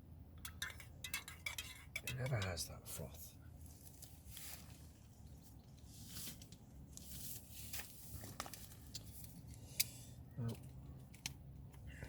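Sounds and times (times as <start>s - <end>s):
soft rustling and scraping: 1.1s - 11.8s.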